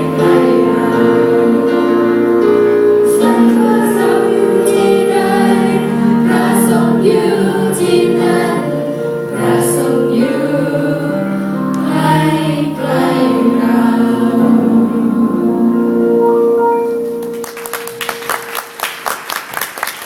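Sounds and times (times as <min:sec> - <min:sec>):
youth choir singing in harmony: 0:00.0 - 0:17.0.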